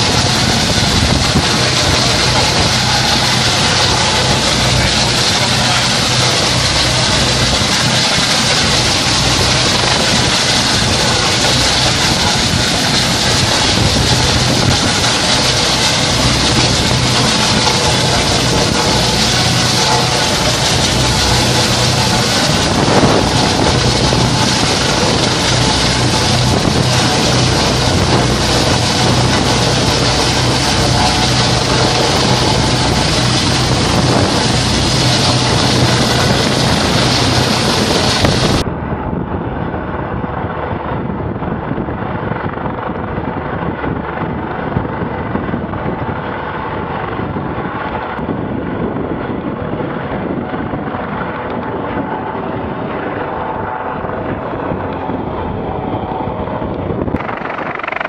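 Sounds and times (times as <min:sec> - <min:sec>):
rushing water: 0:00.0 - 0:38.7, 0:49.7 - 0:58.0
boat engine: 0:00.0 - 0:58.0
helicopter rotor and engines: 0:00.0 - 0:58.0
wind buffeting microphone: 0:00.0 - 0:58.0.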